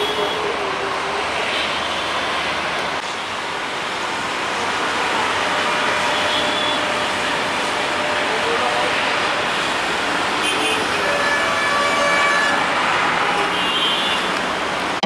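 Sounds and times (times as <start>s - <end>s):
busy city traffic: 0.0s - 15.0s.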